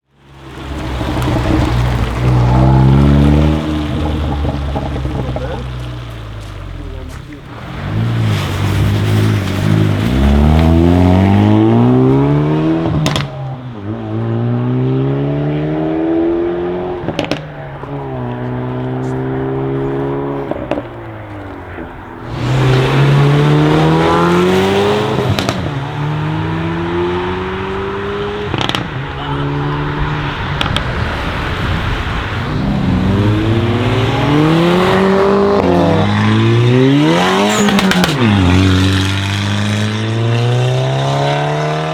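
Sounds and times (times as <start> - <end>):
car engine accelerating: 0.0 - 41.9
exhaust cracks: 0.0 - 41.9.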